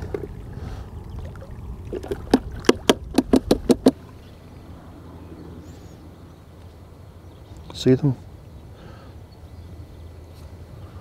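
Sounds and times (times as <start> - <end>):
faint background noise: 0.0 - 11.0
wind rumble on microphone: 0.0 - 11.0.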